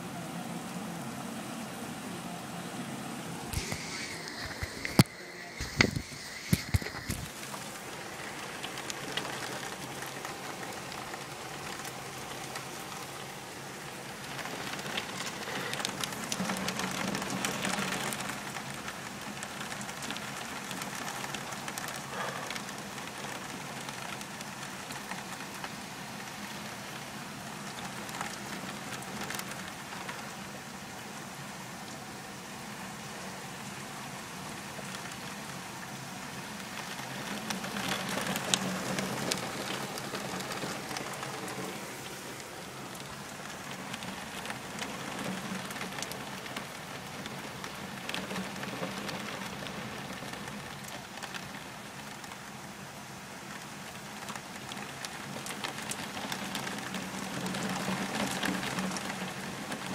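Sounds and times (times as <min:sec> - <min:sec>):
heavy rain falling: 0:00.0 - 0:59.9
sharp ticks of raindrops: 0:03.3 - 0:59.9.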